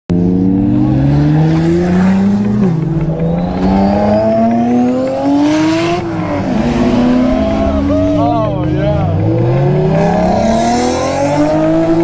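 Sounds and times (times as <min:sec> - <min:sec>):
sports car engine accelerating: 0:00.1 - 0:12.0.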